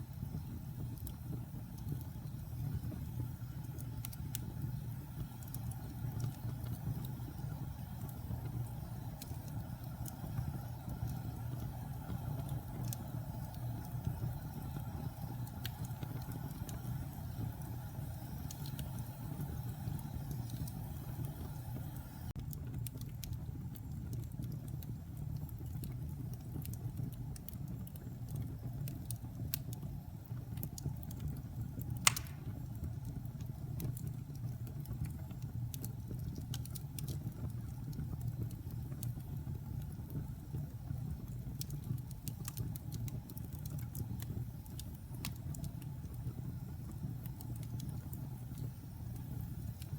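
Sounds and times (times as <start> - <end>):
fire crackling: 0.0 - 49.9
fire flames rumbling: 0.0 - 49.9.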